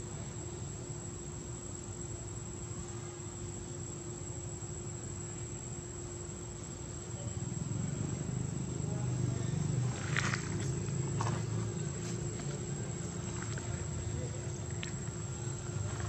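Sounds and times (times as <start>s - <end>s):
insect drone with high whine: 0.0s - 16.0s.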